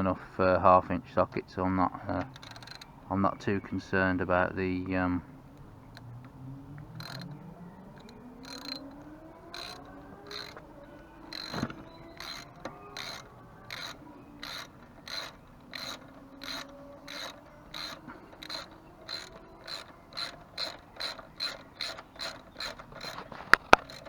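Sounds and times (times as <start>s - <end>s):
ratchet clicking: 2.1s - 3.1s, 5.5s - 24.0s.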